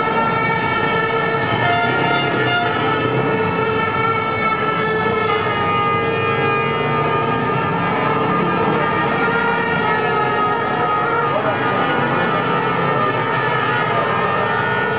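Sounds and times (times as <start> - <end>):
protest crowd din: 0.0 - 14.9
horns sounding held tones: 1.3 - 14.9.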